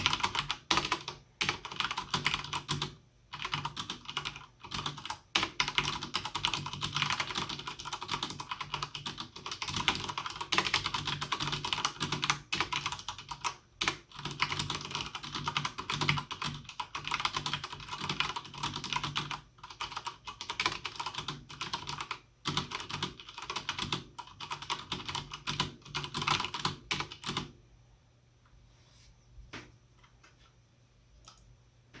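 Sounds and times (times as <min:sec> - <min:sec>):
mechanical keyboard typing: 0:00.0 - 0:27.5.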